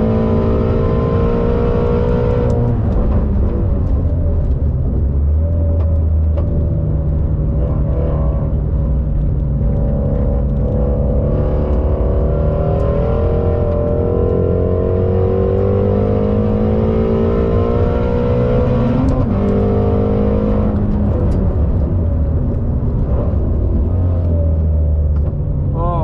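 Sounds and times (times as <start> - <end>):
car engine under full throttle: 0.0 - 26.0.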